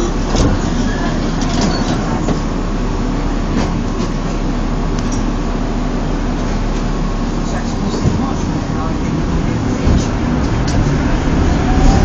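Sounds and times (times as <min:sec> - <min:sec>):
tram wheels rumbling on track: 0:00.0 - 0:12.0.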